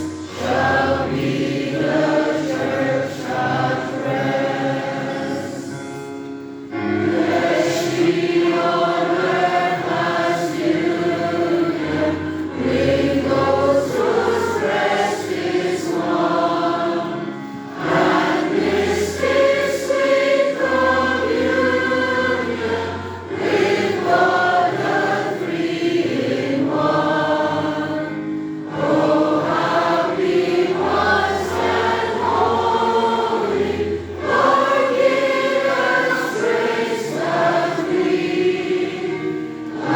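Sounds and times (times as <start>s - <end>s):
congregation singing a hymn: 0.0s - 39.9s
instrumental accompaniment: 0.0s - 39.9s.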